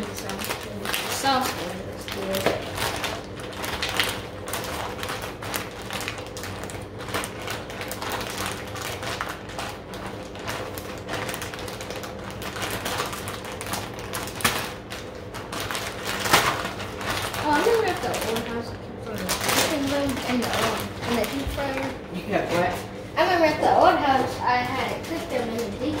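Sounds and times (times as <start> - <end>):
food packaging crinkling: 0.0 - 22.8.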